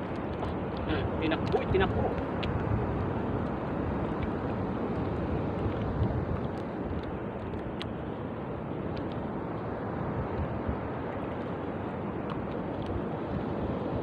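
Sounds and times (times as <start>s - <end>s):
wind on microphone: 0.0s - 7.9s, 8.9s - 14.0s
water washing around canoe: 0.0s - 14.0s.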